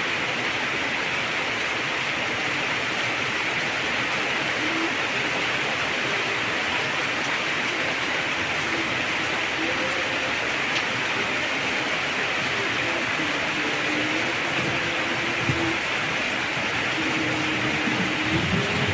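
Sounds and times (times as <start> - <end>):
heavy rain pouring: 0.0 - 18.9.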